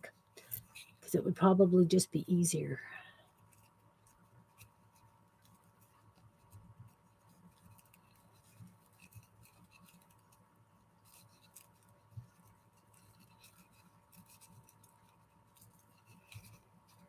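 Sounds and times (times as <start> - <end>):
crepe paper crinkling: 3.2 - 17.0.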